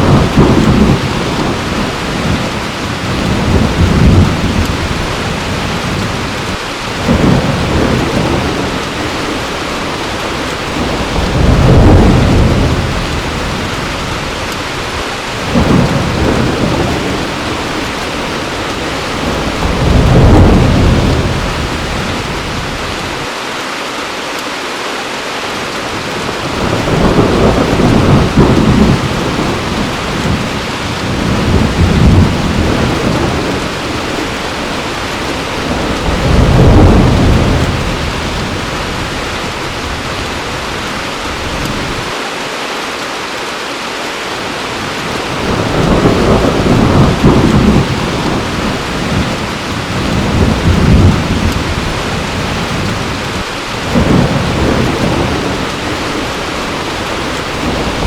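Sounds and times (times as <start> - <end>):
thunder rumbling: 0.0 - 23.3, 25.9 - 42.2, 44.8 - 58.0
heavy rain falling: 0.0 - 58.0.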